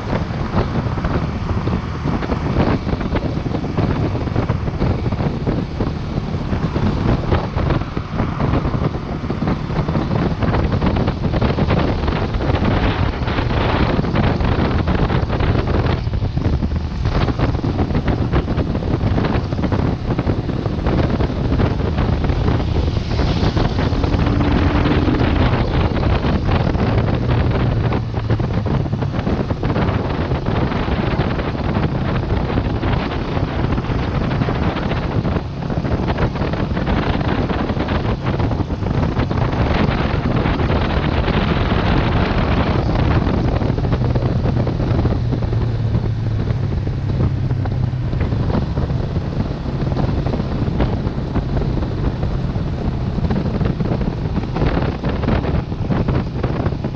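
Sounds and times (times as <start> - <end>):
motorcycle engine running: 0.0 - 56.9
wind buffeting microphone: 0.0 - 56.9.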